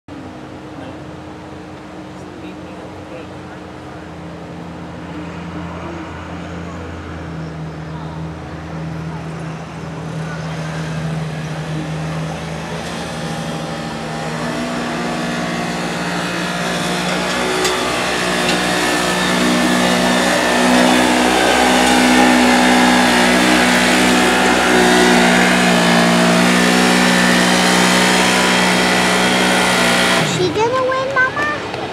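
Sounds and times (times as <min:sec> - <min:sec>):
engine running at high revs: 0:00.4 - 0:31.9.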